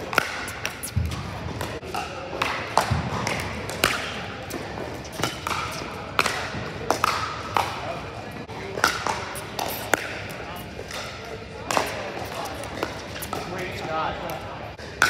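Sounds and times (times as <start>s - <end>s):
ball bouncing: 0.0s - 7.9s, 8.7s - 13.5s.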